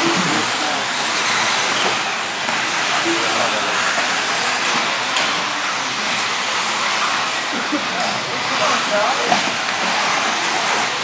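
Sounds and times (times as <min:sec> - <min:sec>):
rc cars whining: 0:00.0 - 0:11.0.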